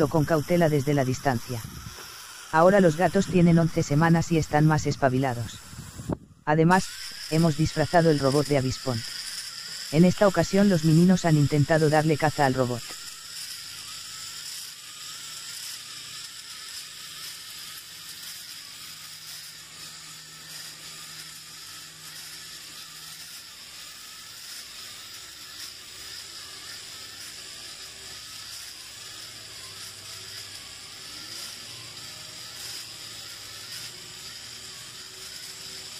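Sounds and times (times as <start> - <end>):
toy gear motor whirring: 0.0 - 35.9.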